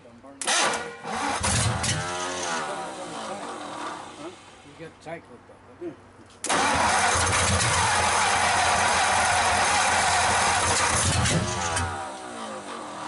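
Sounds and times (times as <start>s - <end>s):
loud engine without mufflers: 0.4s - 4.6s, 6.4s - 13.0s.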